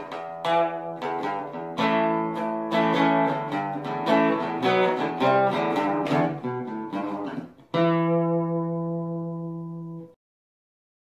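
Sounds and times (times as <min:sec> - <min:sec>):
guitar strumming and picking: 0:00.0 - 0:10.1
guitar chord ringing out: 0:00.0 - 0:10.2.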